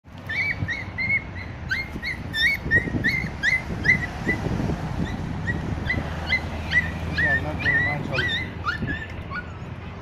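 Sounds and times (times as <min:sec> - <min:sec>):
dogs whimpering: 0:00.2 - 0:09.8.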